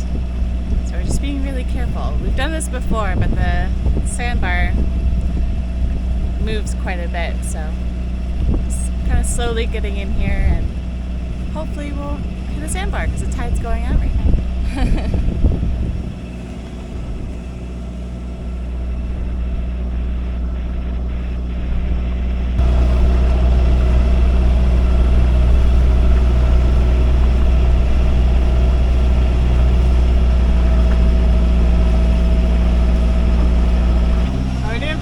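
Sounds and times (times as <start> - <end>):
boat engine droning: 0.0 - 35.0
steady hum: 0.0 - 35.0.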